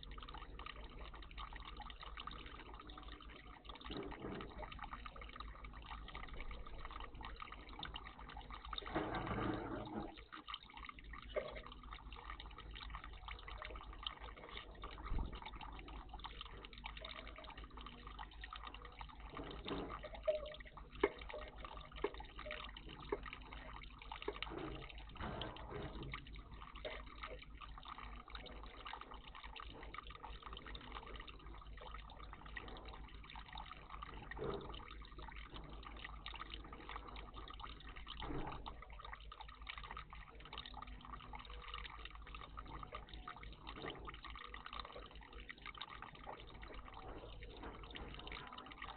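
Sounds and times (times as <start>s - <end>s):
water dripping: 0.0s - 48.9s
water splashing: 0.0s - 48.9s
water trickling: 0.0s - 48.9s.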